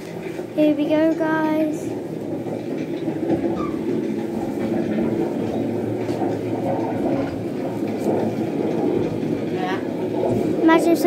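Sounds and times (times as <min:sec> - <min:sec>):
low rumbling ambience: 0:00.0 - 0:10.8.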